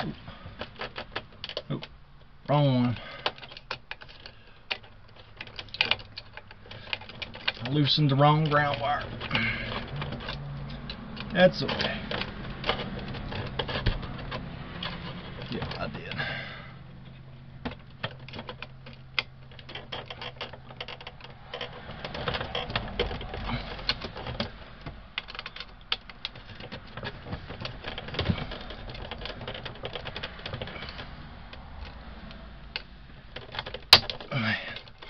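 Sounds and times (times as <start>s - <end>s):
screwdriver clicking and scraping: 3.0s - 16.1s, 17.1s - 35.0s.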